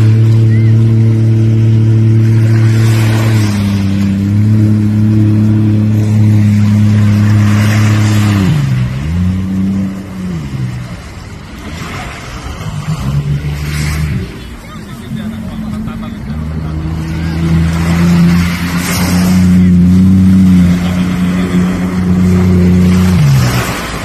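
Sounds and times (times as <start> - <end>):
jet ski engine running: 0.0 - 24.0.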